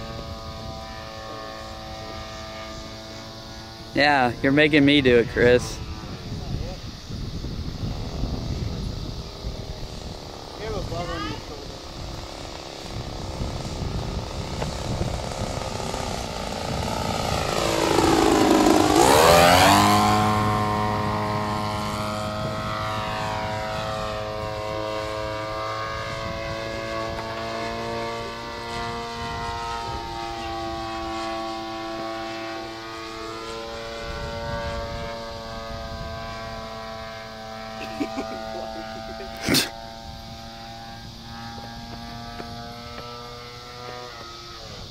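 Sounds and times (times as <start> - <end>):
model airplane motor and propeller: 0.0 - 44.9.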